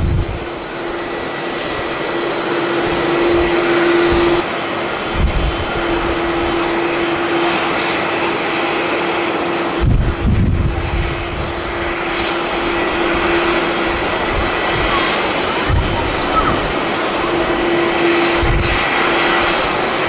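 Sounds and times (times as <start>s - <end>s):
jet engine noise: 0.0s - 20.0s.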